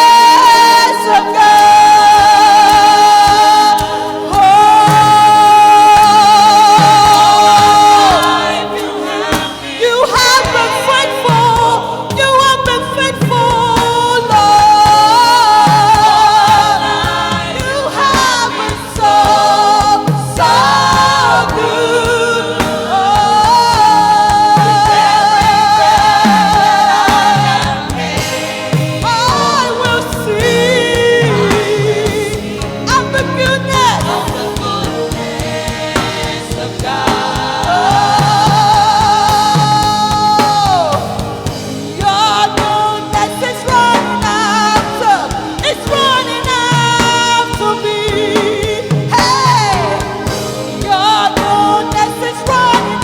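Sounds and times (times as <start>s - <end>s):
gospel music accompaniment: 0.0s - 53.0s
gospel singer: 0.0s - 53.0s.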